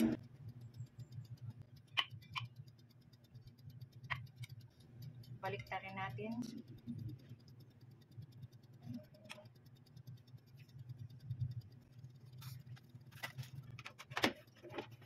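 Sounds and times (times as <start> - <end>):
fast even ticking: 0.0 - 15.0.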